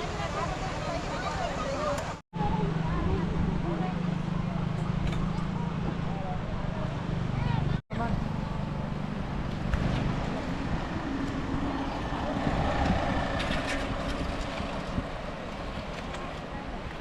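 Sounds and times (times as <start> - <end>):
flooded river roaring: 0.0 - 17.0.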